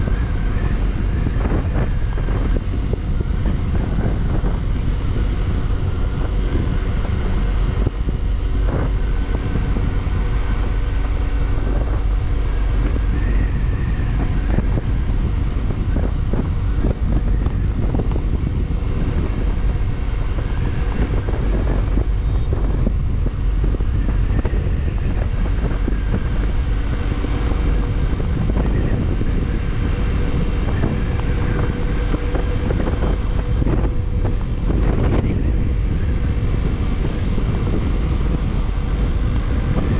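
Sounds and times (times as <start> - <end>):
motorcycle engine hum: 0.0 - 39.9
wind noise on microphone: 0.0 - 39.9.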